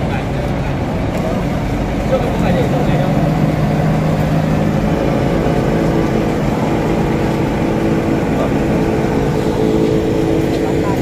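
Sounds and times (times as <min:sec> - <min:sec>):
crane engine rumbling: 0:00.0 - 0:11.0.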